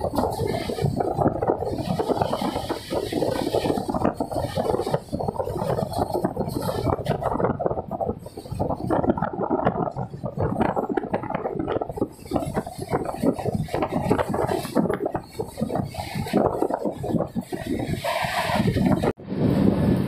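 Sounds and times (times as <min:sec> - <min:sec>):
train wheels clattering: 0:00.0 - 0:19.1.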